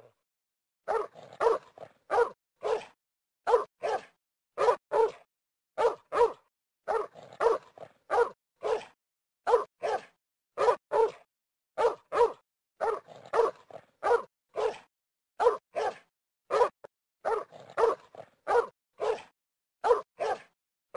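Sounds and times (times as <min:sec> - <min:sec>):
dog barking: 0:00.9 - 0:20.6.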